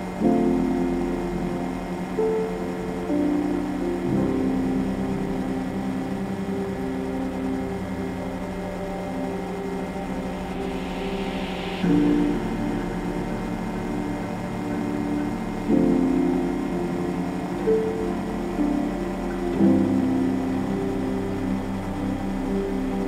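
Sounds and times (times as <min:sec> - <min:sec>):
ambient background music: 0:00.0 - 0:23.0.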